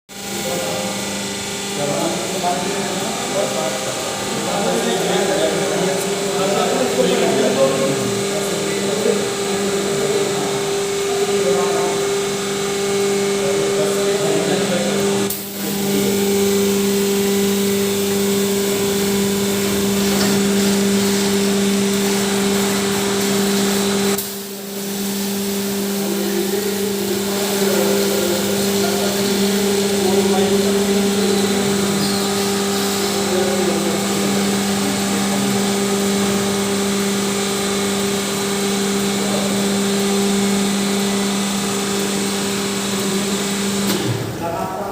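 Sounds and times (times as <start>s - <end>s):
washing machine motor humming: 0.1s - 44.9s.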